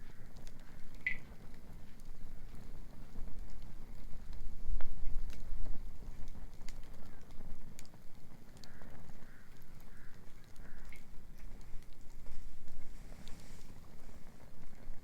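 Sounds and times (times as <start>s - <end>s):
wood bonfire crackling: 0.0s - 15.0s.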